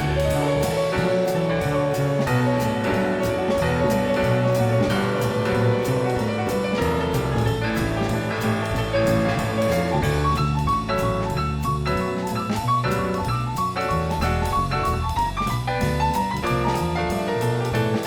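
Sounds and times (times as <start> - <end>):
jazz piano: 0.0 - 18.0.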